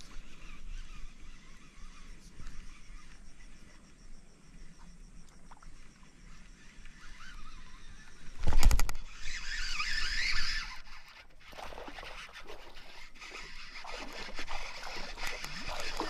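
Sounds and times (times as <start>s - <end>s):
reel clicking while reeling in: 0.0s - 4.0s, 4.7s - 16.0s
fishing reel spool whining: 0.0s - 4.8s, 5.7s - 16.0s.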